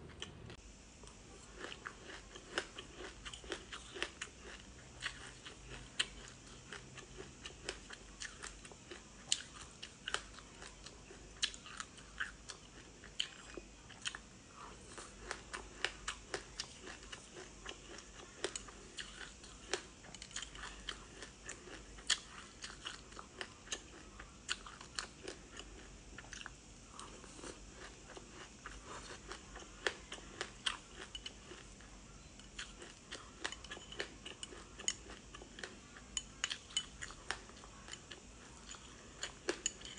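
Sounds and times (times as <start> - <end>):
chewing and crunching frozen fruit: 0.1 - 39.9.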